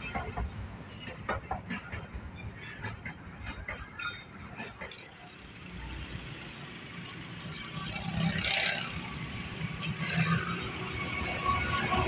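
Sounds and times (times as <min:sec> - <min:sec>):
rush of train noise: 0:00.0 - 0:12.0.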